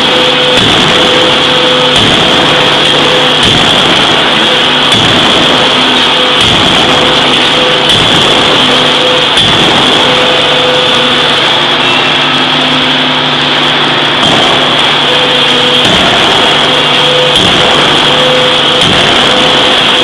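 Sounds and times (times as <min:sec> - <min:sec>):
forging machinery hum and whine: 0:00.0 - 0:20.0.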